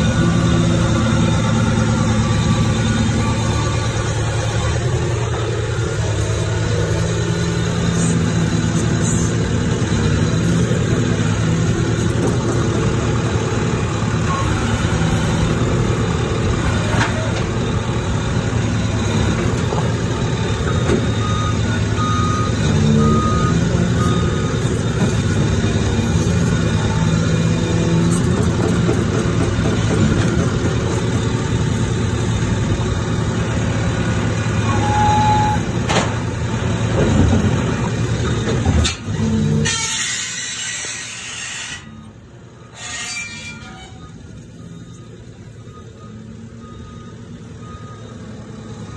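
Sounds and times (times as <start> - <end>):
diesel engine running: 0.0 - 42.8.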